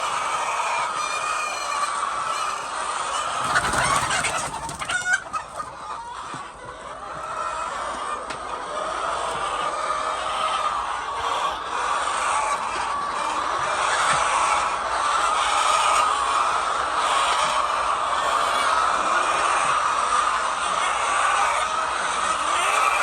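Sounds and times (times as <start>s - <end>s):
chickens clucking: 0.0s - 23.0s
sharp chicken calls: 0.0s - 23.0s.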